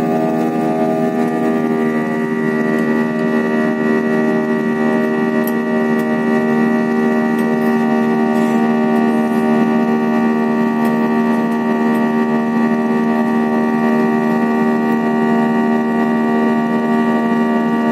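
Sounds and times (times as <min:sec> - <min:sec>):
airliner engines droning in cabin: 0:00.0 - 0:17.9.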